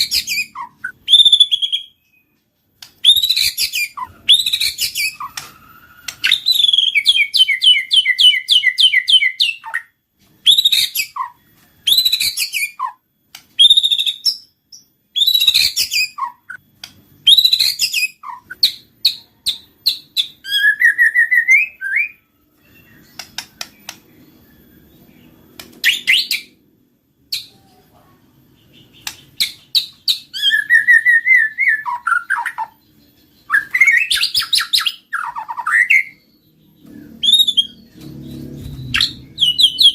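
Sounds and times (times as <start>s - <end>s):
bird singing whistles and trills: 0.0s - 26.6s, 28.5s - 39.9s.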